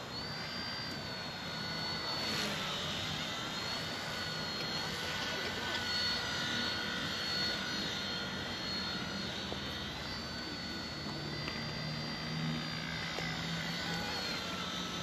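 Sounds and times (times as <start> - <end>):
toy helicopter motors whining: 0.0 - 15.0.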